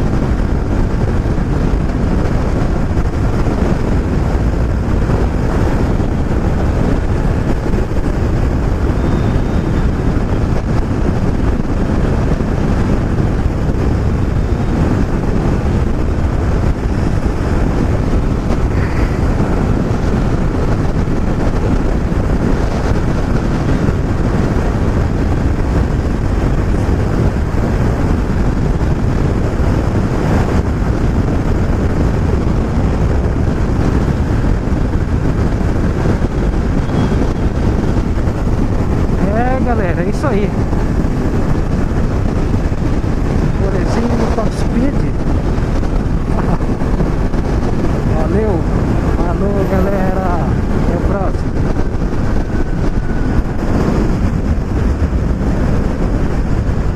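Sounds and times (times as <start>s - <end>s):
motorcycle engine running: 0.0s - 56.9s
wind rush over microphone: 0.0s - 56.9s.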